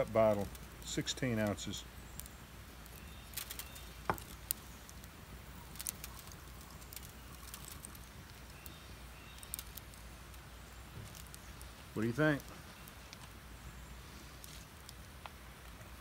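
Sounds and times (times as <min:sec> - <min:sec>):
rice grains ticking into glass bottle: 0:00.0 - 0:13.3
wood fire crackling: 0:00.0 - 0:16.0.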